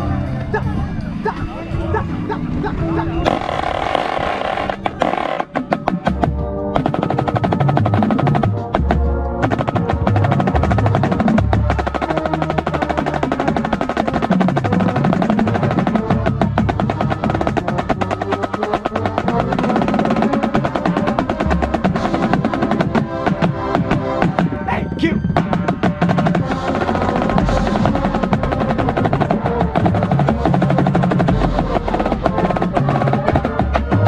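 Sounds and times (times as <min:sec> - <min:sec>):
lower drums and pitched instruments: 0:00.0 - 0:34.0
marching snare drum rolls: 0:03.2 - 0:34.0.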